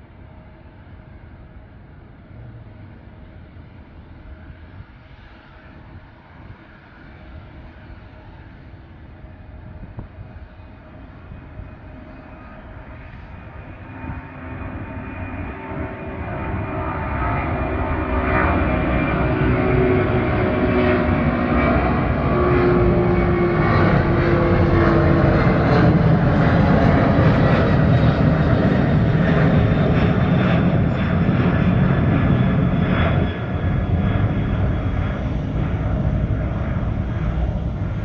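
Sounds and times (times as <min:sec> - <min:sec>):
jet engines roaring at takeoff: 0:00.0 - 0:38.0.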